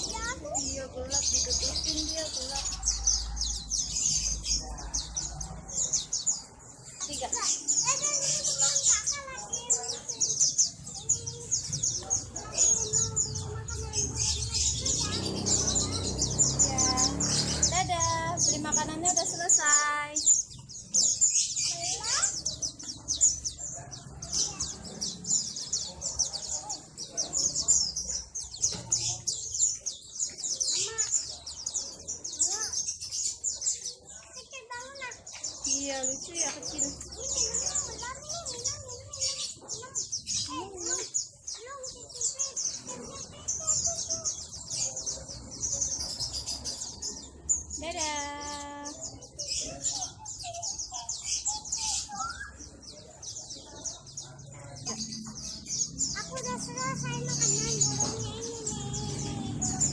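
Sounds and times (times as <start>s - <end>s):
caged birds chirping: 0.0s - 59.9s.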